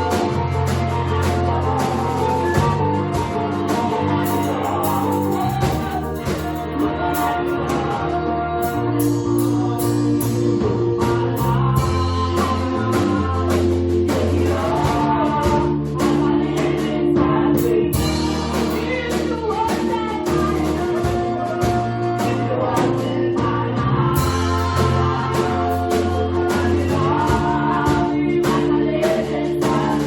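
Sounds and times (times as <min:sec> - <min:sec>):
bass notes: 0:00.0 - 0:30.0
gospel singing: 0:00.0 - 0:30.0
guitar: 0:00.0 - 0:30.0
drum beats: 0:00.1 - 0:30.0.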